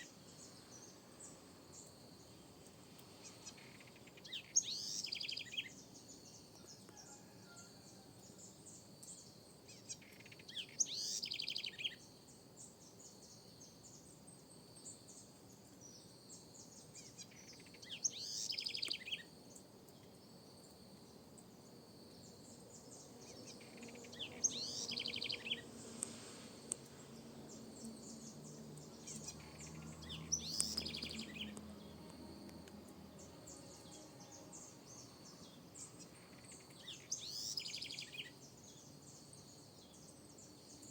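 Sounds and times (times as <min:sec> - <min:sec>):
wren singing trilling songs: 0:00.0 - 0:40.9.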